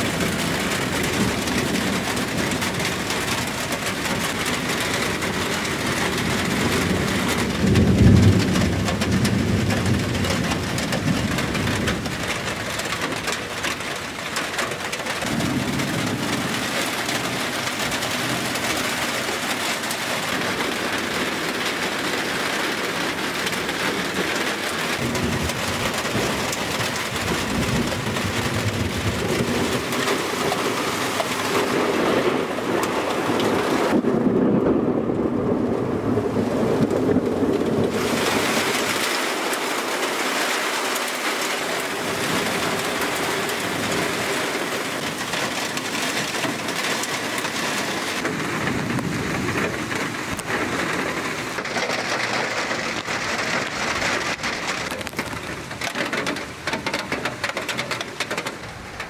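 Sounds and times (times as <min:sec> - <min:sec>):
rolling thunder: 0:00.0 - 0:40.0, 0:41.9 - 0:59.0
heavy rain on pavement: 0:00.0 - 0:59.0.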